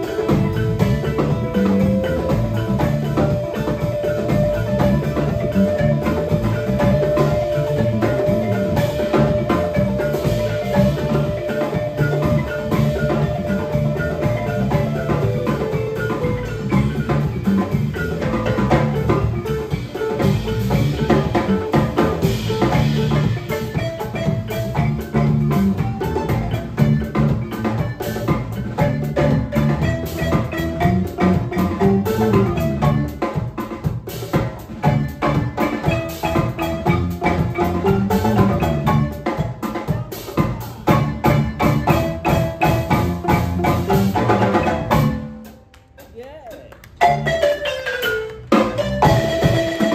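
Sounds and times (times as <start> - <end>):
electric bass: 0.0 - 45.7, 46.3 - 49.9
djembe: 0.0 - 49.9
drum kit: 0.0 - 49.9
guitar: 0.0 - 49.9
wooden xylophone struck with mallets: 0.0 - 49.9.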